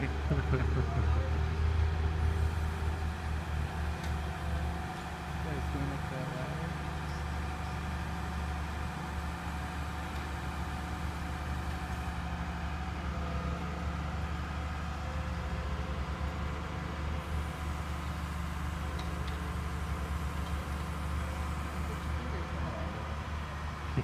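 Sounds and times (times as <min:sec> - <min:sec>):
crane diesel engine droning: 0:00.0 - 0:24.0.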